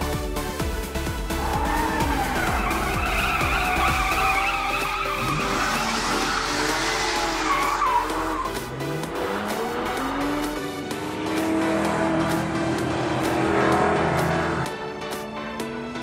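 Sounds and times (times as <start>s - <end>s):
background music: 0.0s - 16.0s
car engine running: 0.2s - 15.9s
tyres skidding: 0.4s - 16.0s.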